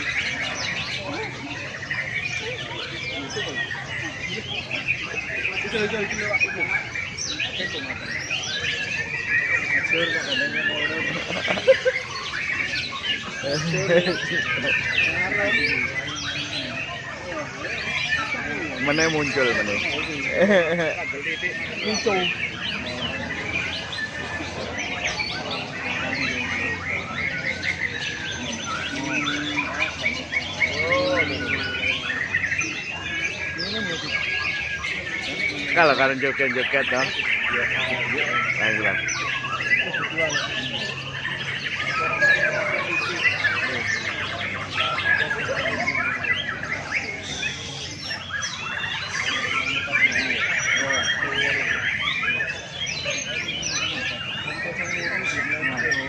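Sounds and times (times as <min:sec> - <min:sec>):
lovebirds chirping and trilling: 0:00.0 - 0:56.0.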